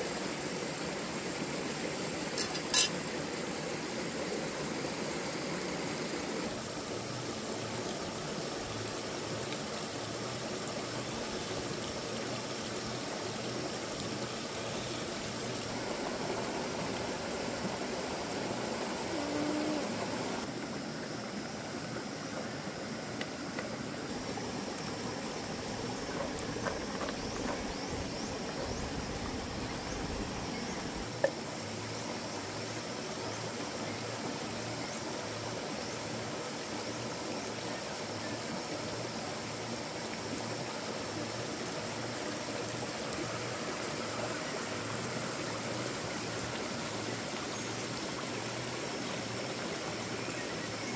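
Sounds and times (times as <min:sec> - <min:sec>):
stream running over stones: 0:00.0 - 0:50.9.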